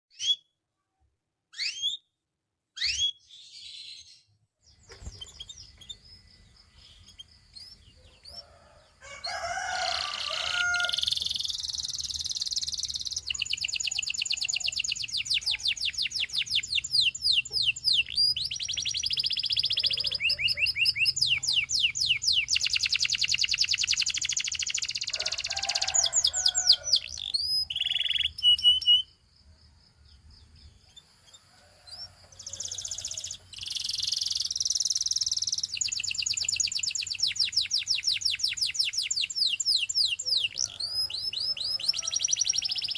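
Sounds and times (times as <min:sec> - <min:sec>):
canary singing trills: 0:00.1 - 0:00.6, 0:01.5 - 0:02.1, 0:02.8 - 0:29.2, 0:30.2 - 0:42.9.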